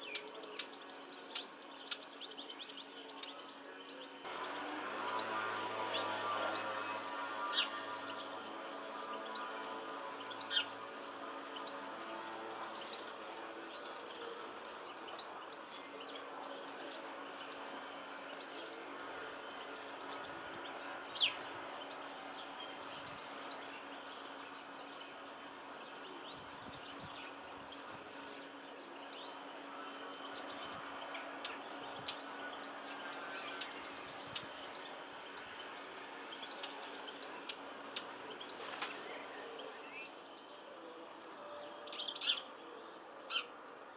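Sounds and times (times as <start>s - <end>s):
songbird singing: 0.0s - 43.9s.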